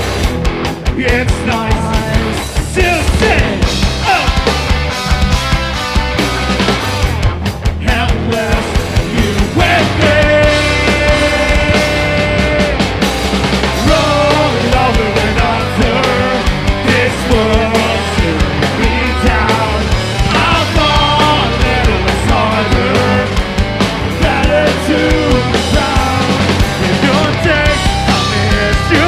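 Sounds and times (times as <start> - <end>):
rock band playing: 0.0 - 29.0.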